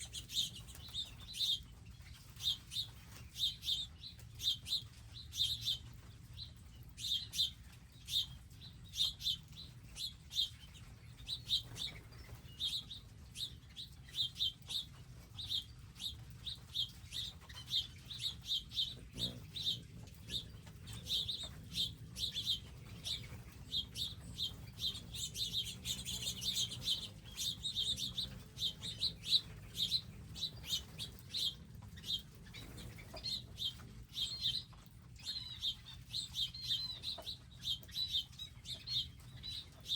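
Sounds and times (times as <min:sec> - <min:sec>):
faint low hum: 0:00.0 - 0:39.9
small birds chirping: 0:00.0 - 0:39.9.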